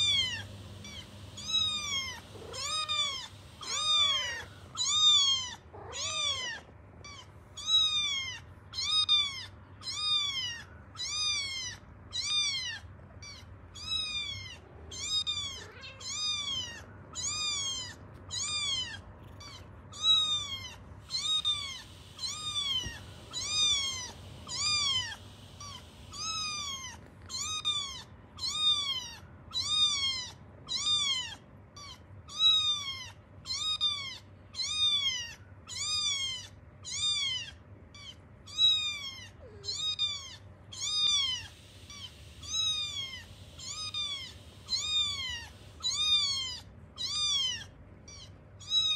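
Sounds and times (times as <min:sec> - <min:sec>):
kitten meowing from phone speaker: 0:00.0 - 0:48.9.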